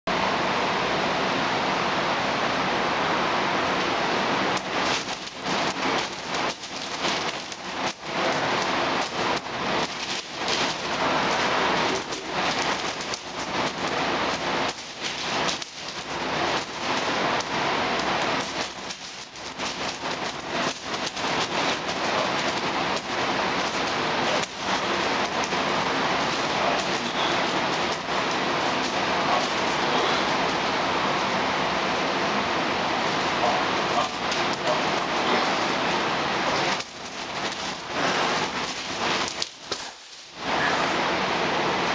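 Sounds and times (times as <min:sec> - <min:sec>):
steady loud hiss: 0:00.1 - 0:41.9
thin high-pitched whine: 0:00.4 - 0:41.9
heavy chains clinking and rattling: 0:04.5 - 0:40.7.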